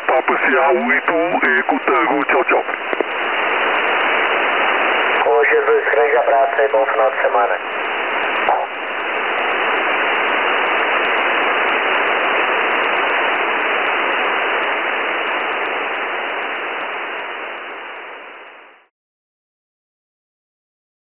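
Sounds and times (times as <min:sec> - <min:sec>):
radio receiver hiss: 0:00.0 - 0:18.9.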